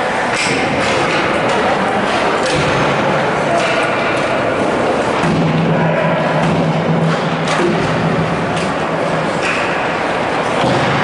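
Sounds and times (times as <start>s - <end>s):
hockey sticks and puck clacking: 0.0s - 11.0s
rink and crowd noise: 0.0s - 11.0s.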